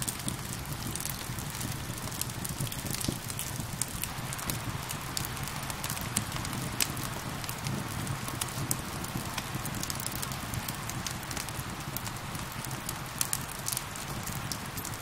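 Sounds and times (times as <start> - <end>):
fire crackling and popping: 0.0 - 15.0
rain falling: 0.0 - 15.0.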